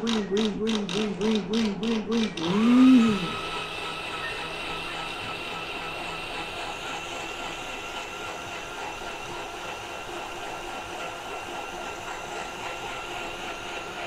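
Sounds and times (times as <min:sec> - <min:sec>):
blender motor whining: 0:00.0 - 0:14.0.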